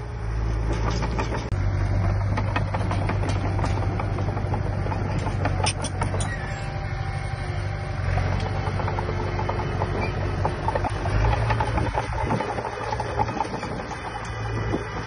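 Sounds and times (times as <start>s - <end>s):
diesel engine of heavy machinery: 0.0s - 15.0s
sharp clicks and clanks: 0.6s - 6.8s, 7.9s - 15.0s.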